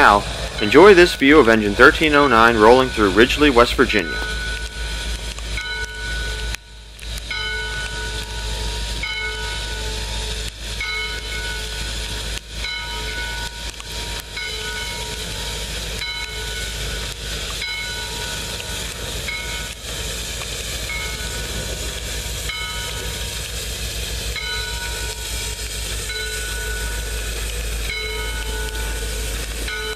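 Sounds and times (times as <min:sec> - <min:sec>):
locomotive bell ringing: 0:00.0 - 0:19.8, 0:20.8 - 0:23.4, 0:24.3 - 0:29.9
steam hissing: 0:00.0 - 0:29.9.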